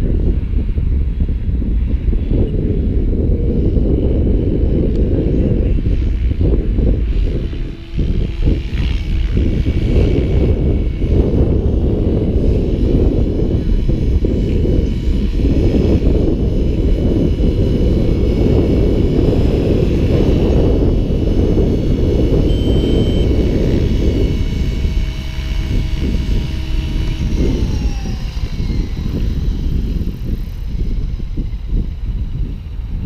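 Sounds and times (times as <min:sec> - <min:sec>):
helicopter rotor whining: 0:02.4 - 0:33.0.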